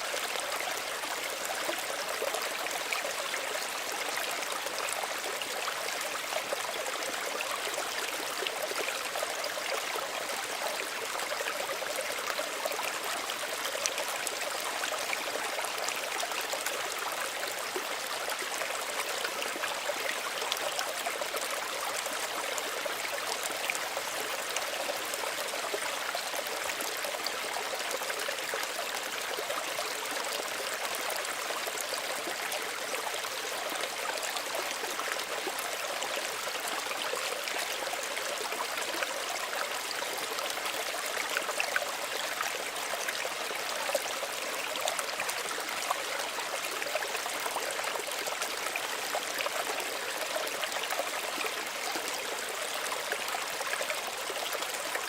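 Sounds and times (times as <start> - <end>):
stream babbling and trickling: 0.0 - 55.0.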